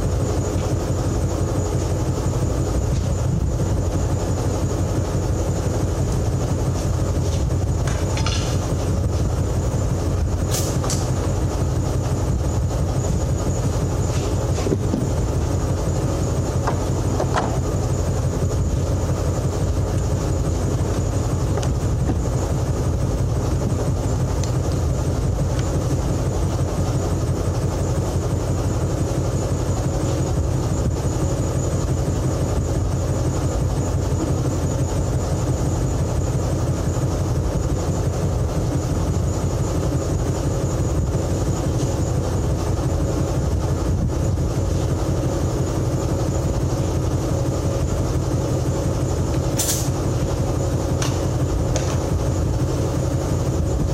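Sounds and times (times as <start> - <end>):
engine running with rattling: 0.0 - 53.9.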